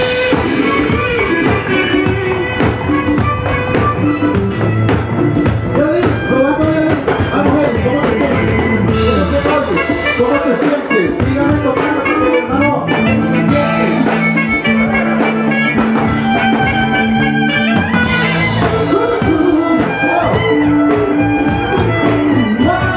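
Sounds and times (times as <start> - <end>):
bowed electric violin: 0.0 - 22.9
drum kit and percussion: 0.0 - 22.9
keyboard: 0.0 - 22.9.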